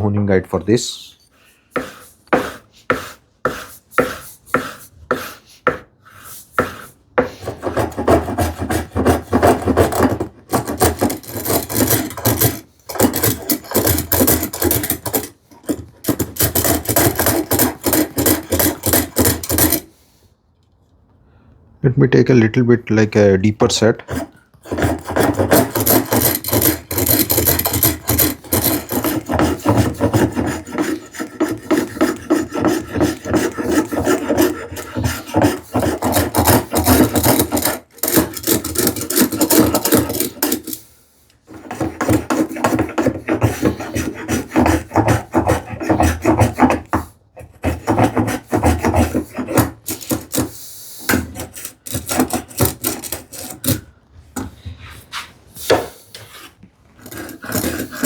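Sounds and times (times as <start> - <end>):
spokeshave rasping on wood: 1.7 - 20.0, 24.0 - 40.8, 41.5 - 53.8, 56.2 - 58.0.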